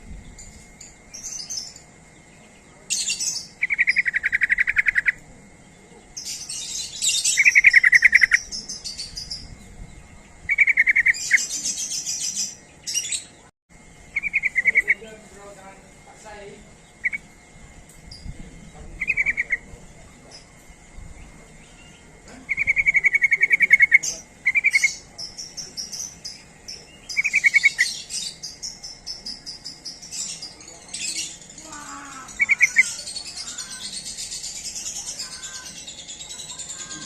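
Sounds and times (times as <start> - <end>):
high-pitched bird chattering chorus: 0.3 - 17.5, 18.1 - 37.0
bulbuls calling with bubbling trills: 0.9 - 9.6, 10.2 - 13.4, 14.0 - 15.3, 16.1 - 17.5, 18.1 - 37.0.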